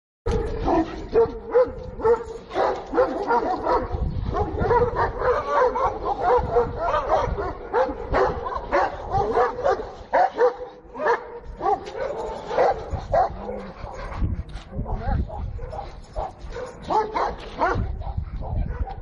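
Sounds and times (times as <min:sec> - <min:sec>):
dogs barking and yelping: 0:00.3 - 0:19.0.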